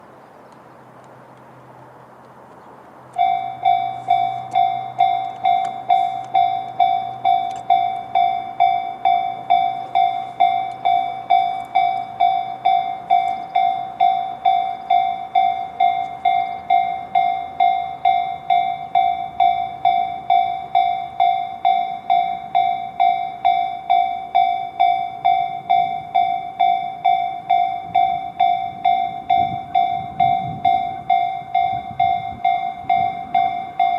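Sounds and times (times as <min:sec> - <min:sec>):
level crossing electronic bell: 0:03.2 - 0:33.9.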